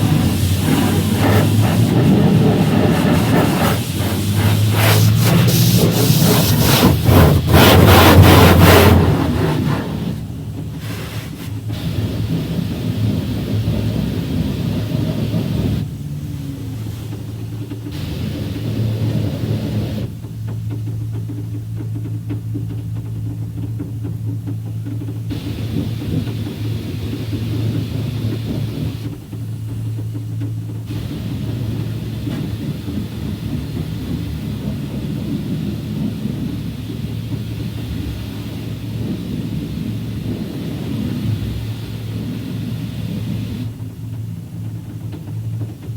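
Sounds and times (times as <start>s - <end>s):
low machine hum: 0.0s - 45.9s
water spraying onto a truck: 0.0s - 45.9s.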